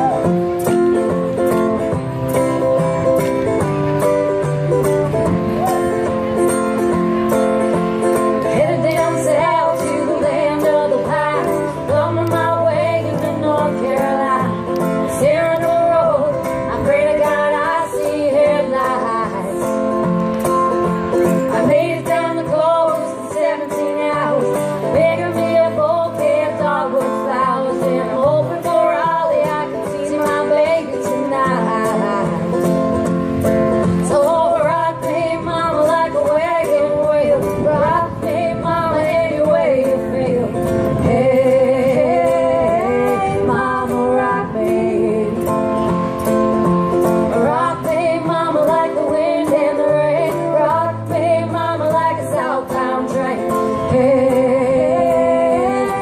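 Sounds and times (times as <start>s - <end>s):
acoustic guitar blues tune: 0.0s - 56.0s.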